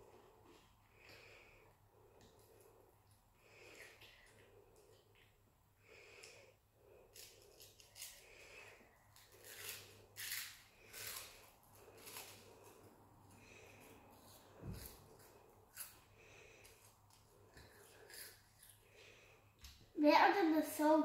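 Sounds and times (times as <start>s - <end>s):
child chewing crispy bar: 0.1s - 19.5s.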